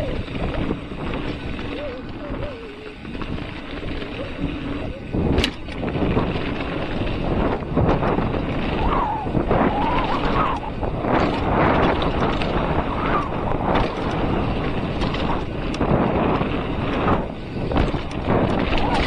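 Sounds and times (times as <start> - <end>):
bike ticks and rattles: 0.0 - 19.0
wind buffeting microphone: 0.0 - 19.0.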